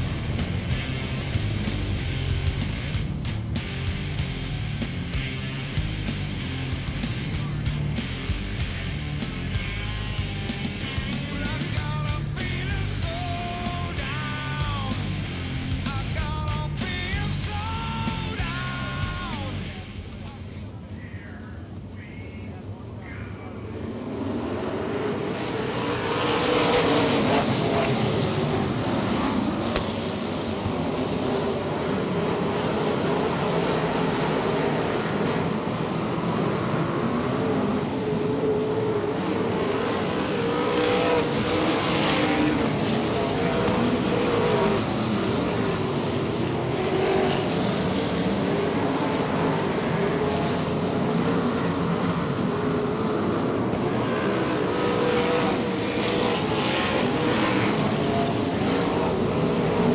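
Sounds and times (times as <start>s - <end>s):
race car engines roaring: 0.0s - 59.9s.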